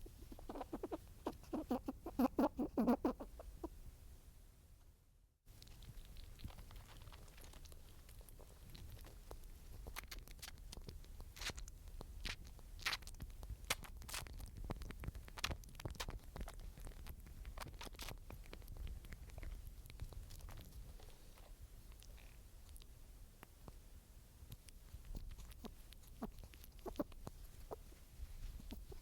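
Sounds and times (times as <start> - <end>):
small animal crunching and clicking: 0.0 - 3.7, 5.5 - 29.0.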